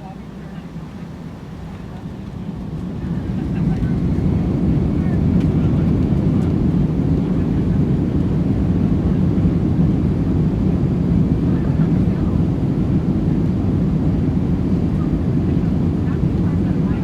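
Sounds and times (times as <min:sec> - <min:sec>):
jet engines roaring: 0:00.3 - 0:17.0.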